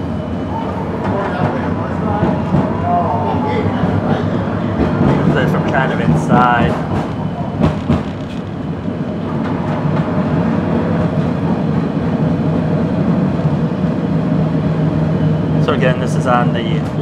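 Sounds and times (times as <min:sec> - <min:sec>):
streetcar rumble and hum: 0:00.0 - 0:17.0.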